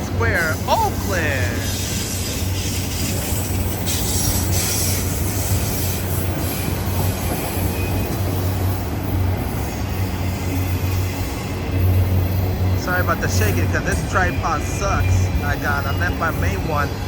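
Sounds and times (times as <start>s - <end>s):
steel wheels running on rails: 0.0s - 17.0s.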